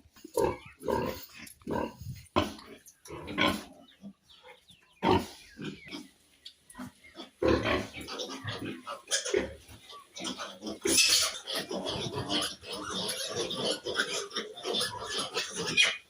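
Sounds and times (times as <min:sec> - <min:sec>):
pigs grunting: 0:00.0 - 0:03.8, 0:05.0 - 0:06.1, 0:06.7 - 0:16.0.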